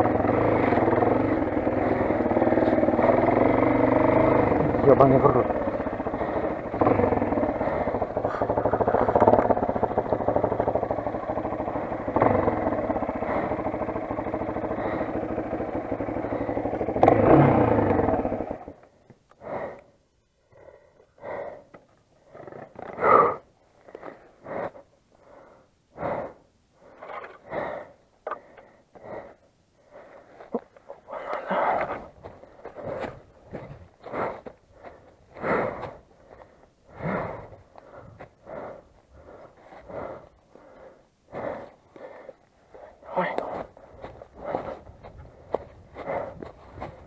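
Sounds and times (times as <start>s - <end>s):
dirt bike engine running: 0.0s - 19.9s, 27.2s - 47.0s.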